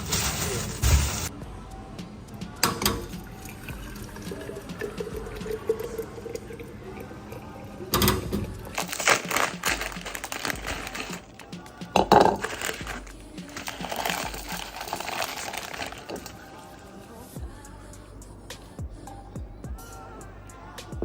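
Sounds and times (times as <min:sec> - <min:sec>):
music: 0:00.0 - 0:21.0.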